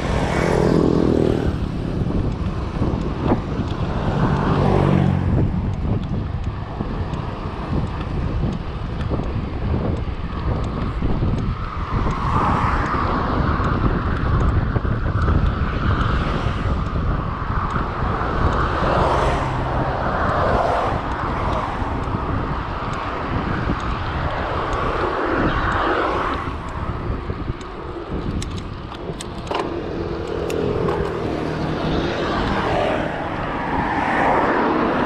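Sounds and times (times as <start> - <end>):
low road noise rumble: 0.0 - 35.0
wind over microphone: 0.0 - 35.0.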